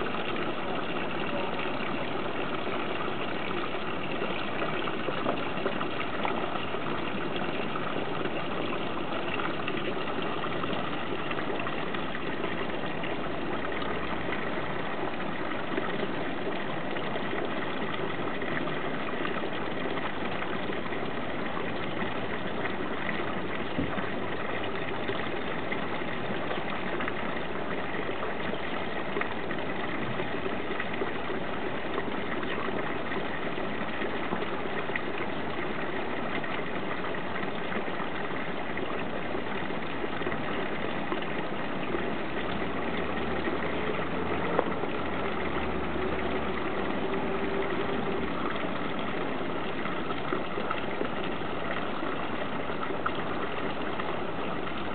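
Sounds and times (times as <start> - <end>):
fountain water pouring into pond: 0.0 - 54.9.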